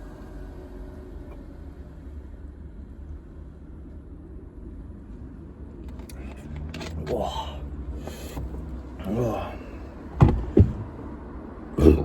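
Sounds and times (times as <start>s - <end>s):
car rumbling: 0.0s - 12.0s.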